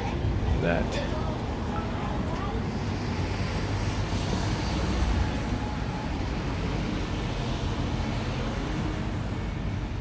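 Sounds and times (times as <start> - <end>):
cars passing: 0.0 - 10.0.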